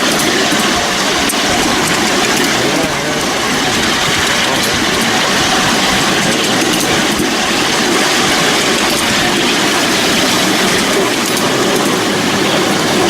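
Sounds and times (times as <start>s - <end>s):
miniature train wheels rumbling: 0.0s - 13.0s.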